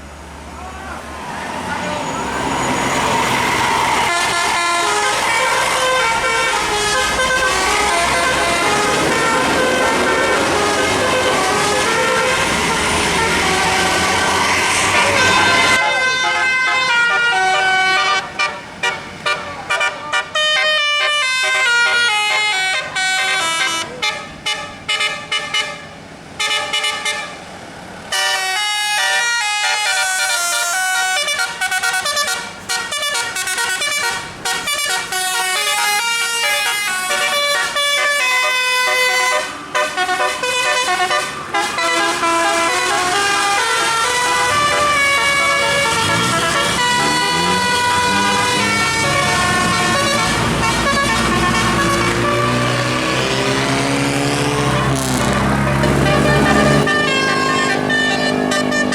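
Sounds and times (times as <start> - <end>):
musical air horn playing a tune: 2.6 - 25.8, 28.1 - 58.9.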